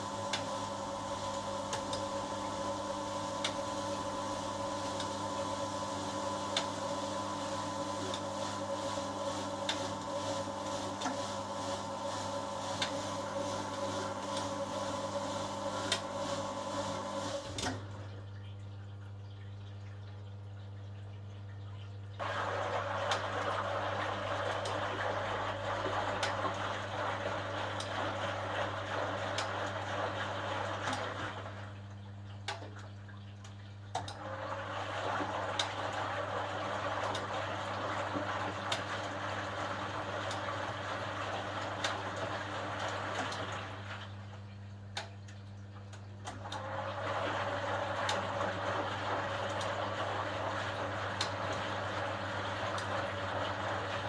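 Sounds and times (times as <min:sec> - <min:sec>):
washing machine water sloshing: 0:00.0 - 0:54.0.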